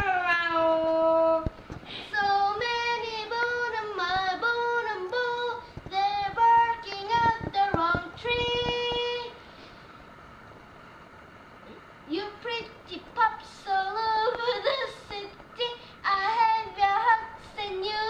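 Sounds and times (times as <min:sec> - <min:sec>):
girl singing wordless vocal runs: 0:00.0 - 0:09.4, 0:12.1 - 0:18.0.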